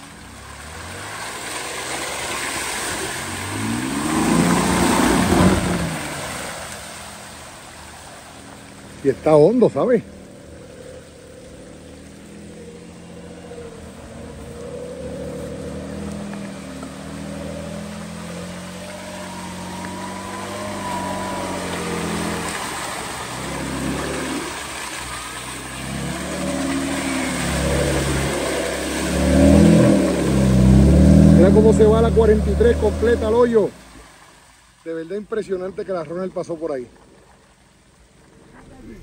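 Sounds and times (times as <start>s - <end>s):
off-road engine revving: 0.0s - 34.1s.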